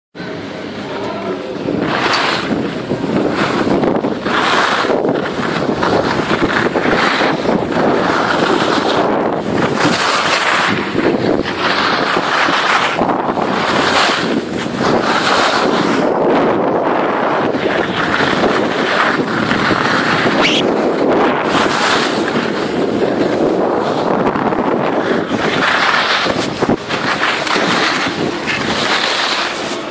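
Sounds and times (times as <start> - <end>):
wind rushing over microphone: 0.2 - 29.9
skis sliding on snow: 0.8 - 29.9.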